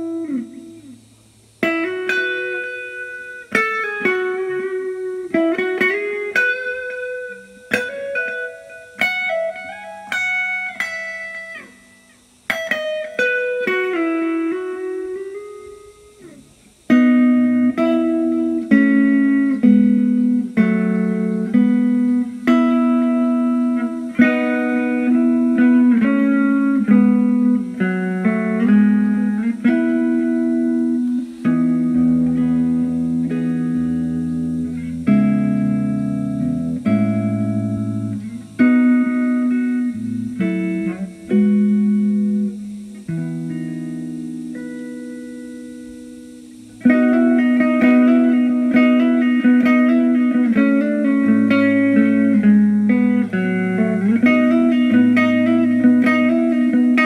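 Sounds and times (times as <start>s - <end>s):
electric guitar playing blues: 0.0s - 57.0s.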